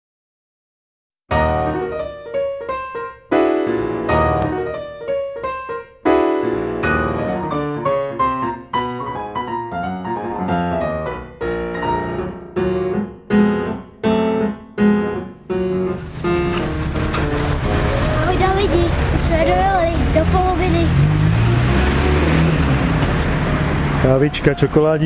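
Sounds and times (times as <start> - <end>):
piano music: 1.3 - 25.0.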